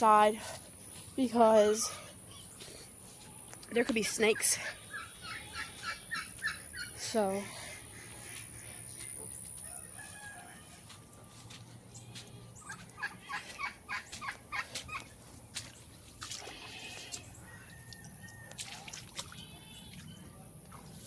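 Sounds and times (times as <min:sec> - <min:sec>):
poultry clucking: 0:01.0 - 0:21.0.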